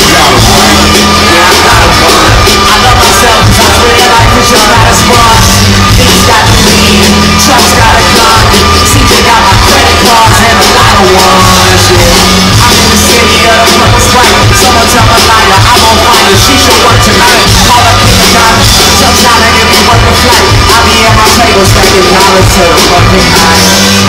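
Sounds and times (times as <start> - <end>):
crowd yelling: 0.0 - 24.0
lead vocal singing: 0.0 - 24.0
loud live concert music: 0.0 - 24.0.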